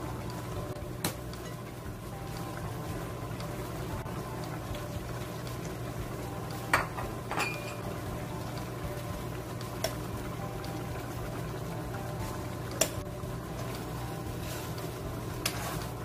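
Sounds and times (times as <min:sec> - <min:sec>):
sauce bubbling in a frying pan: 0:00.0 - 0:16.0.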